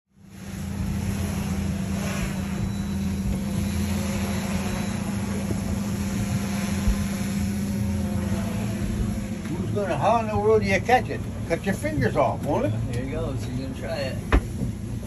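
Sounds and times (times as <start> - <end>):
drone rotors humming: 0.1 - 15.0
low motor hum: 0.1 - 15.0.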